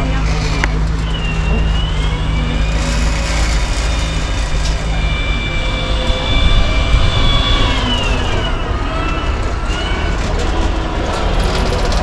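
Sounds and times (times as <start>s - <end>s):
heavy low rumble: 0.0s - 12.0s
electric motor whining: 0.6s - 12.0s.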